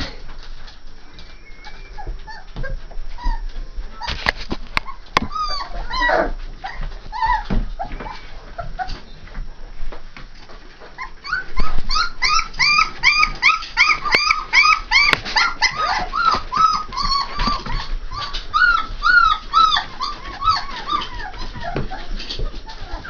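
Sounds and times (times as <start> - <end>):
puppies whining: 0.8 - 9.6, 10.5 - 23.0.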